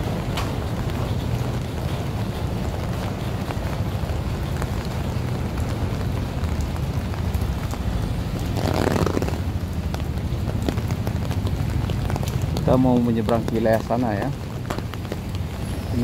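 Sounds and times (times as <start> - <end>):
steady rain on street: 0.0 - 16.0
traffic noise: 0.0 - 16.0.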